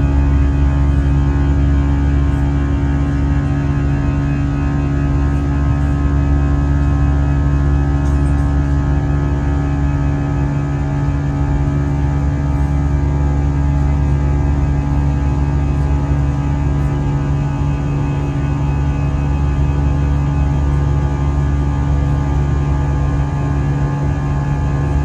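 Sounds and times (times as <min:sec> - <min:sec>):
jet engines and airflow in cabin: 0:00.0 - 0:25.0.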